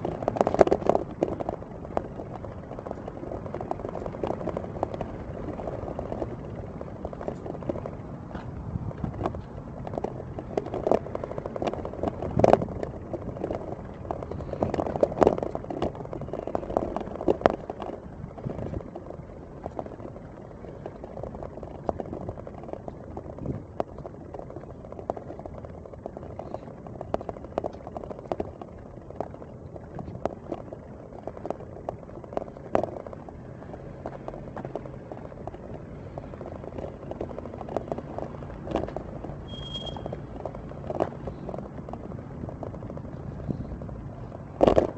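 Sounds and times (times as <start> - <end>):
wheels rolling over brick paving: 0.0 - 44.9.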